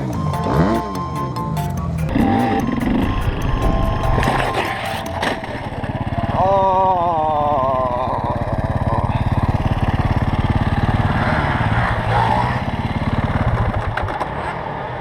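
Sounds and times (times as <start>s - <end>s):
motorcycle engine chugging: 0.0s - 14.0s.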